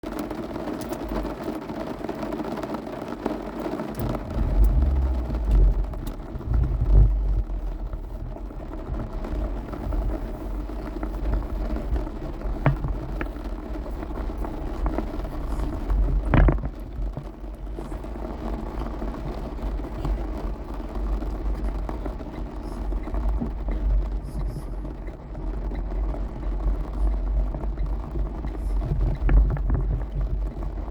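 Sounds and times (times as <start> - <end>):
wind buffeting microphone: 4.0 - 30.9.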